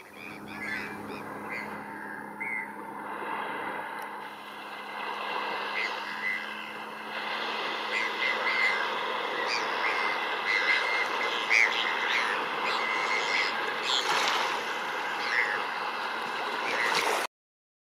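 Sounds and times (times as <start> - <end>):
gulls giving raspy calls: 0.0 - 2.9, 4.9 - 17.1
river waves rushing and splashing: 0.0 - 17.3.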